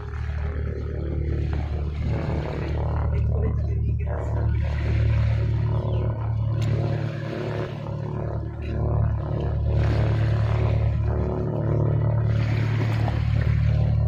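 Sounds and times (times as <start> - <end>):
sea waves washing in: 0.0 - 3.7, 4.3 - 14.0
steady low hum: 0.0 - 14.0.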